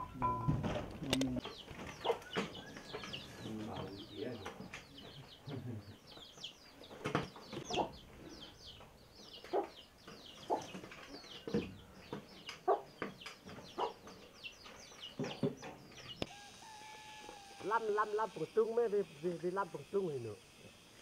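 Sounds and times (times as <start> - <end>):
chickens clucking: 0.0 - 18.4
chicks peeping: 0.0 - 18.4.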